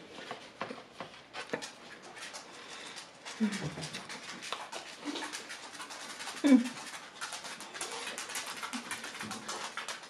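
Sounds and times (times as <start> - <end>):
close chewing with mouth clicks: 1.3 - 10.0.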